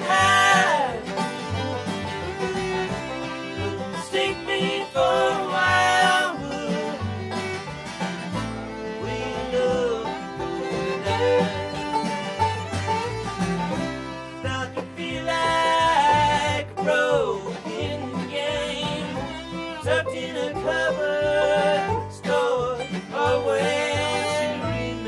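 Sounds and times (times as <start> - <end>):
banjo: 0.0 - 25.0
fiddle: 0.0 - 25.0
upright bass: 0.0 - 25.0.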